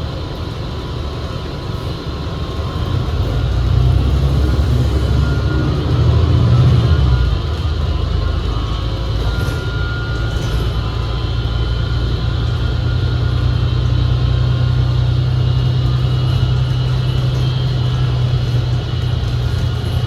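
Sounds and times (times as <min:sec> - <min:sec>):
bus engine rumble: 0:00.0 - 0:20.0
transmission whine: 0:00.1 - 0:20.0.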